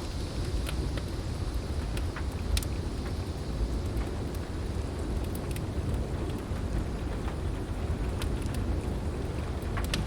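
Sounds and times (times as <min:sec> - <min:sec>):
heavy rain hissing: 0:00.0 - 0:09.3
log fire crackling: 0:00.0 - 0:10.0
low rumble of thunder: 0:00.0 - 0:10.0
wind: 0:00.0 - 0:10.0.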